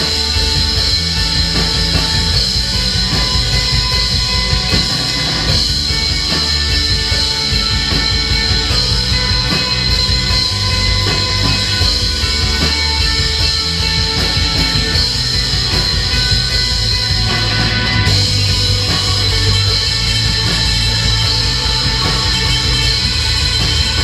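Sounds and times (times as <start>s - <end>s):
bass guitar: 0.0s - 24.0s
drums: 0.0s - 24.0s
electric guitars: 0.0s - 24.0s.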